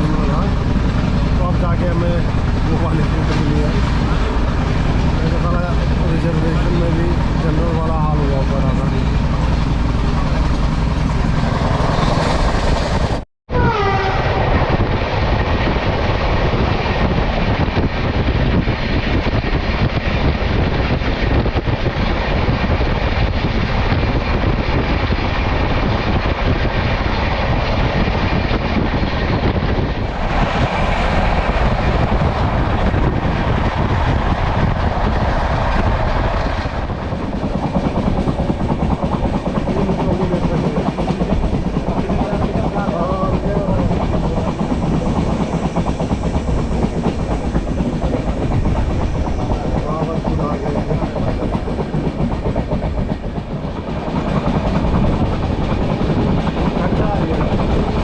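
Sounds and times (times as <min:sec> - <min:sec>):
train rumble and rail noise: 0:00.0 - 0:58.0.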